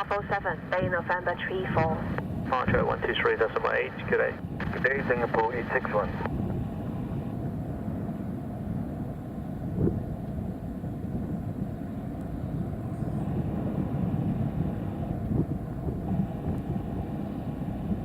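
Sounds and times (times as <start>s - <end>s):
distant jet engines rumbling: 0.0s - 18.0s.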